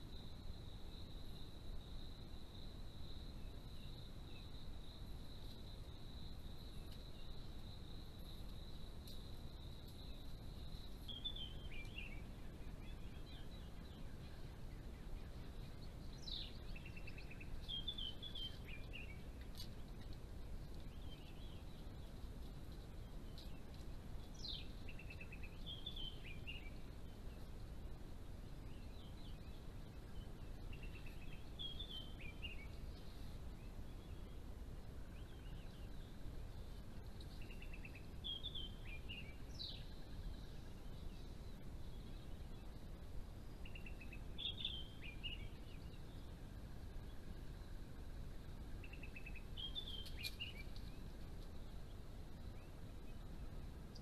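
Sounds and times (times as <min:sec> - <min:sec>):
low background hiss: 0:00.0 - 0:54.0.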